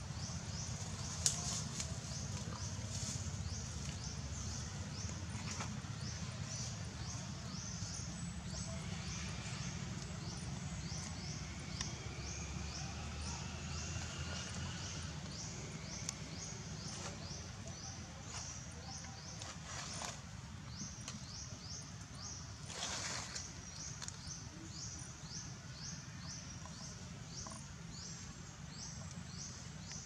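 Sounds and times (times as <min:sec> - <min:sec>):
low steady rumble: 0:00.0 - 0:30.0.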